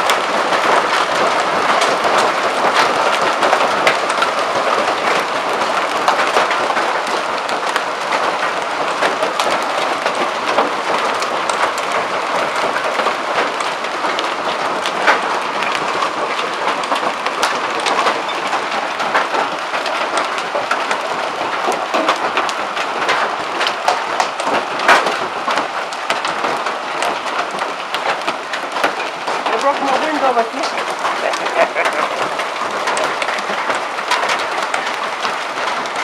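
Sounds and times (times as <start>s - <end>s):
hailstones ticking on hard surfaces: 0.0s - 36.0s
heavy rain patter: 0.0s - 36.0s.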